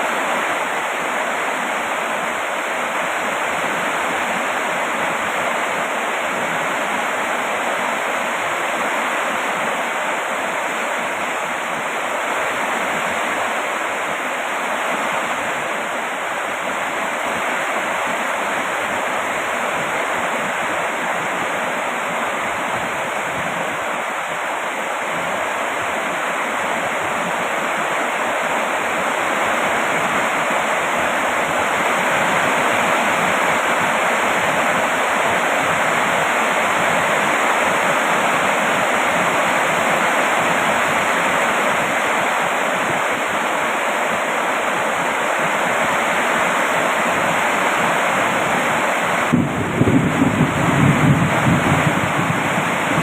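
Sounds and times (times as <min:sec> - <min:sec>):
heavy rain hiss: 0:00.0 - 0:53.0.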